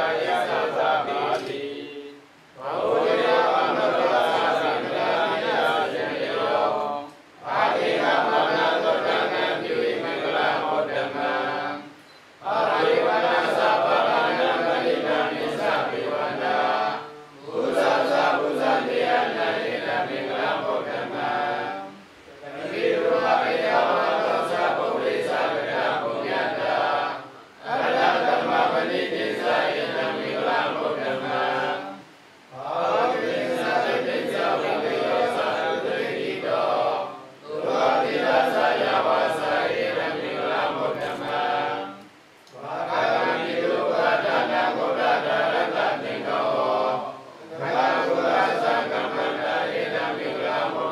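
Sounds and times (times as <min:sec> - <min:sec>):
monks chanting in unison: 0:00.0 - 0:50.9.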